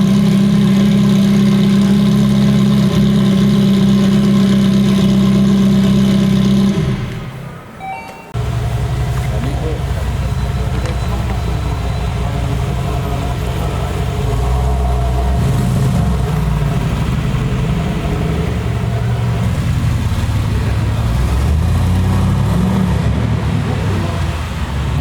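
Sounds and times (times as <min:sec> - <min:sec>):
car engine running: 0:00.0 - 0:07.5, 0:08.4 - 0:25.0.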